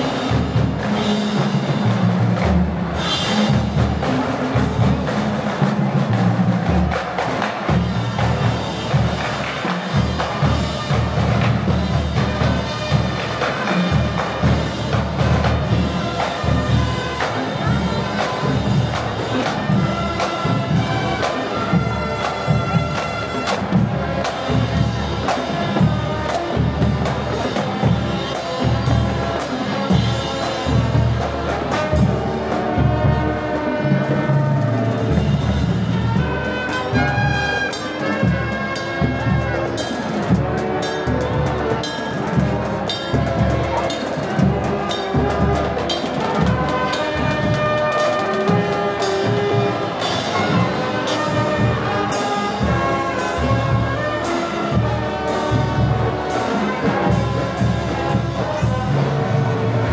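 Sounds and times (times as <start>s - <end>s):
parade music: 0.0s - 59.9s.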